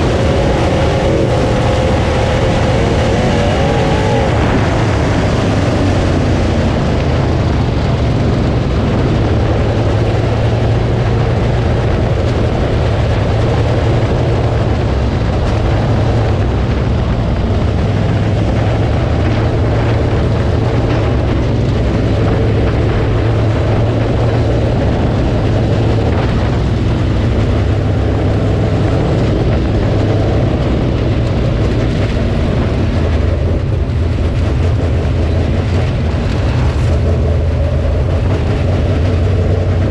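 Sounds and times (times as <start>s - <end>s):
race car engine running hard: 0.0s - 39.9s
wind and road noise: 0.0s - 39.9s.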